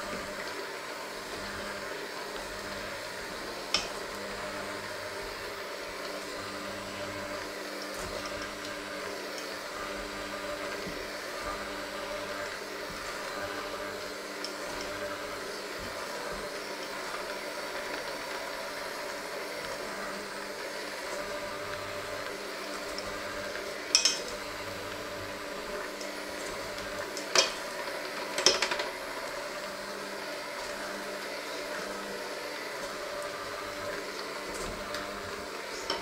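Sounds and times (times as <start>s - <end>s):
electric hand mixer running: 0.0s - 36.0s.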